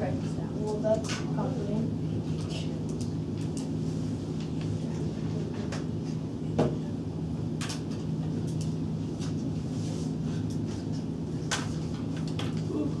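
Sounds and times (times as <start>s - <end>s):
classroom room hum: 0.0s - 13.0s.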